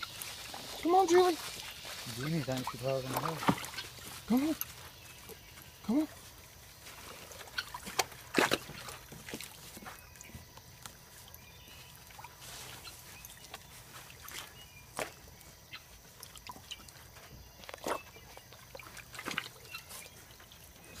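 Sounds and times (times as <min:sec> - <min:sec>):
dogs splashing in shallow water: 0:00.0 - 0:21.0
water dripping: 0:00.0 - 0:21.0.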